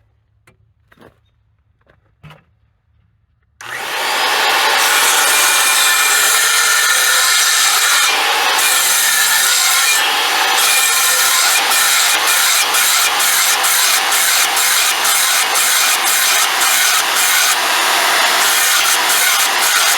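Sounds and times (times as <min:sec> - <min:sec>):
table saw cutting wood: 0:03.6 - 0:19.9.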